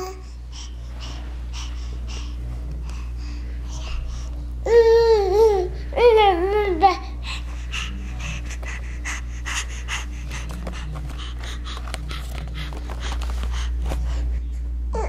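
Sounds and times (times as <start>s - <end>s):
baby panting: 0.0s - 6.0s, 6.9s - 14.5s
steady low hum: 0.0s - 15.0s.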